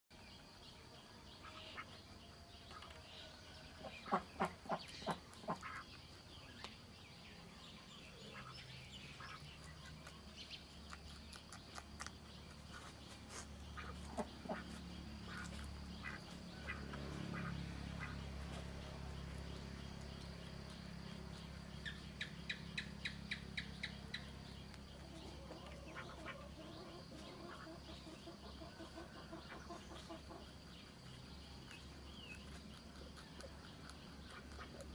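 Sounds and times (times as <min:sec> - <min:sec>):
birds calling: 0:01.4 - 0:34.9
rabbit chewing leaves: 0:02.6 - 0:34.9.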